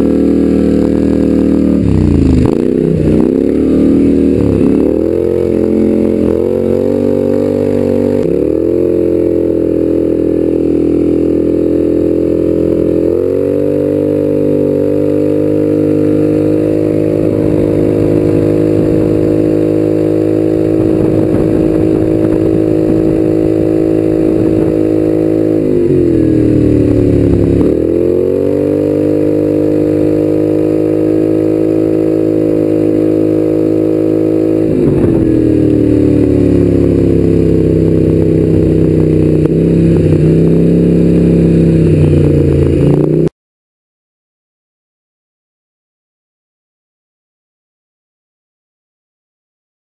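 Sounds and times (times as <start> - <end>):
go-kart engine running: 0.0 - 43.3.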